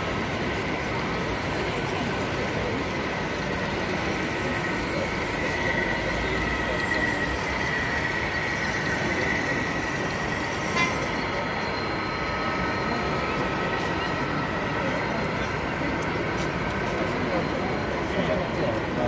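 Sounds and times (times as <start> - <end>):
people chattering: 0.0 - 19.0.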